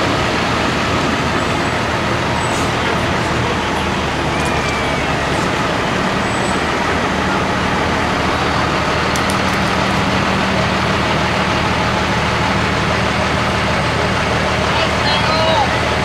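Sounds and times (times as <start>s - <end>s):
street noise: 0.0s - 16.0s
vehicle engine running: 0.0s - 16.0s.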